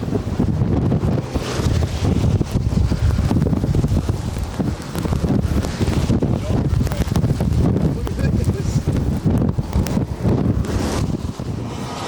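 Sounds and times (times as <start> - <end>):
wind gusting over microphone: 0.0 - 12.0.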